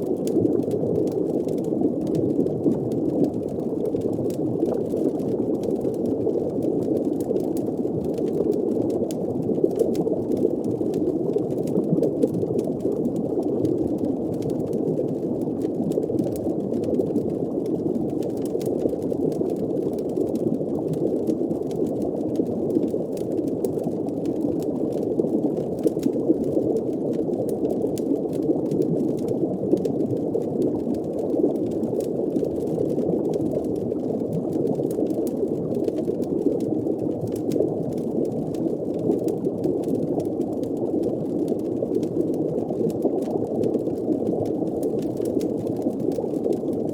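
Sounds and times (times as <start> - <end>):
faint fire crackles: 0.0 - 46.9.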